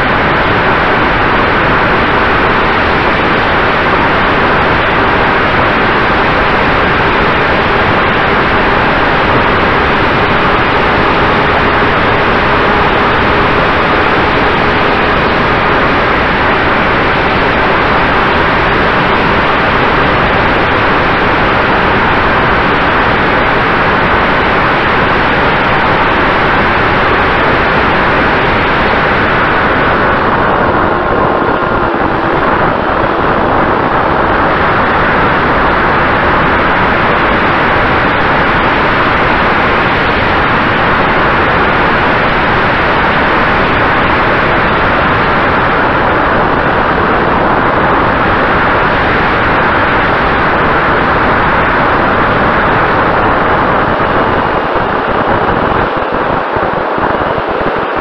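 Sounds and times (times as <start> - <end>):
wind and propeller noise: 0.0 - 58.0.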